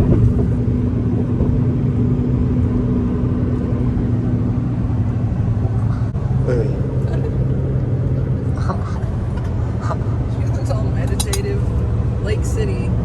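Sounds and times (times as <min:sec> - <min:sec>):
car driving heard from cabin: 0:00.0 - 0:13.0.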